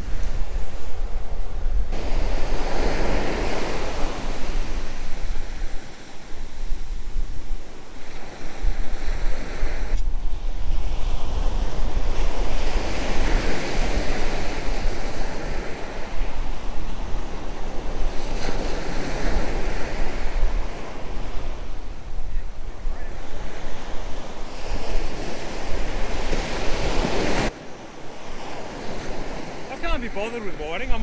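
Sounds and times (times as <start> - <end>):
ocean surf breaking on beach: 0.0 - 31.0
wind buffeting microphone: 0.0 - 31.0.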